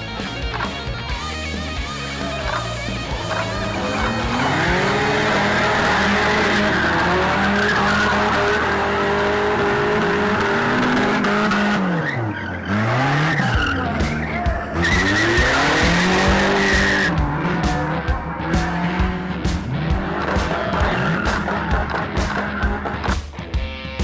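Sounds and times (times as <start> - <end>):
race car engines revving: 0.0 - 23.6.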